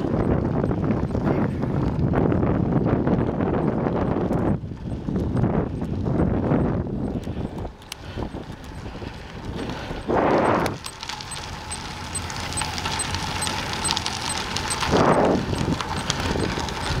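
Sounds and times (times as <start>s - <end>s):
bicycle tyres on gravel: 0.0s - 17.0s.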